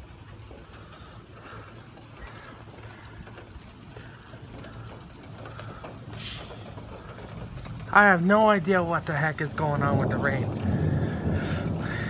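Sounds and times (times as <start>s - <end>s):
steady rain falling: 0.0s - 12.0s
water running on wet pavement: 0.0s - 12.0s.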